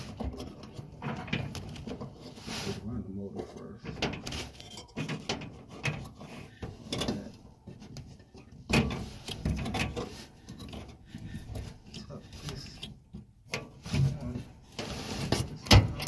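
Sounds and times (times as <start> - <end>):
knocking of metal parts: 0.0 - 2.4, 3.3 - 16.0.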